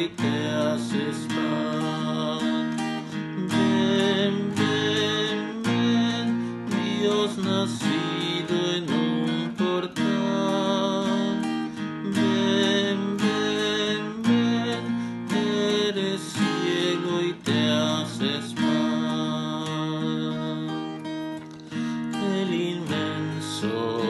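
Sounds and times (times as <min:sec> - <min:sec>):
acoustic guitar strummed chords: 0:00.0 - 0:24.0.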